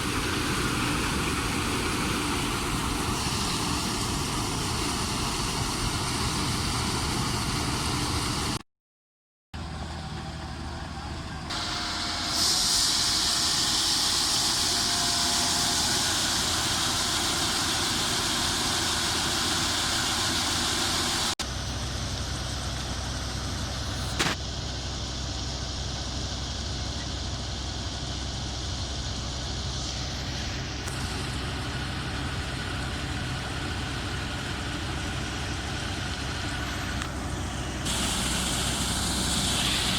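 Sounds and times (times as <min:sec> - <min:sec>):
combine harvesters running: 0:00.0 - 0:08.6, 0:09.6 - 0:39.9
loud high hiss: 0:00.0 - 0:08.6, 0:11.5 - 0:22.2, 0:22.9 - 0:39.9.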